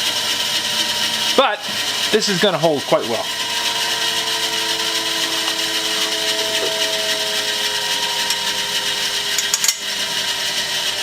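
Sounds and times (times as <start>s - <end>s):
power tool whirring: 0.0s - 11.0s.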